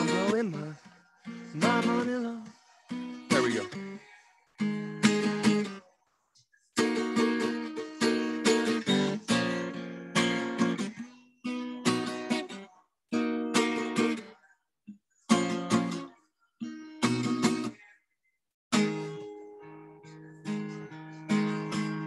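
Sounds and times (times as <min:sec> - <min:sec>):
acoustic guitar strumming chords: 0:00.0 - 0:05.9, 0:06.8 - 0:17.8, 0:18.7 - 0:22.0.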